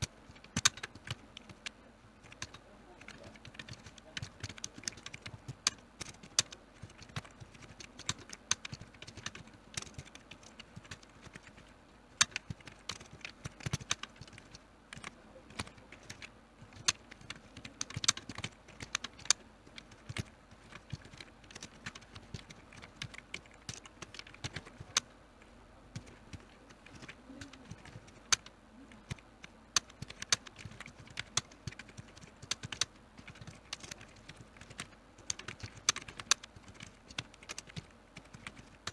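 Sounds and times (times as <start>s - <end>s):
computer keyboard typing: 0.0s - 38.9s.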